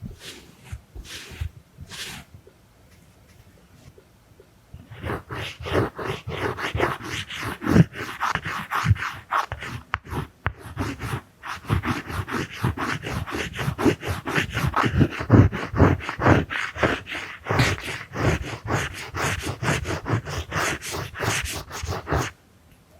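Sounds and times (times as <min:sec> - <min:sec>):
drawing tool scratching strokes: 0:00.0 - 0:02.3, 0:04.8 - 0:22.3.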